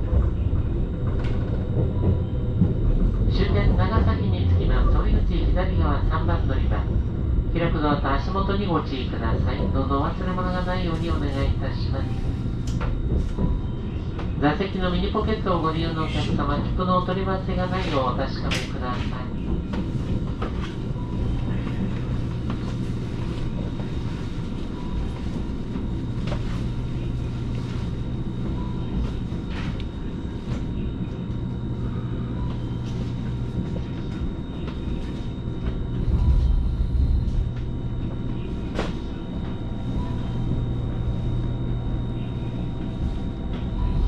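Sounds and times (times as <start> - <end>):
train cabin rumble and hum: 0.0 - 44.0.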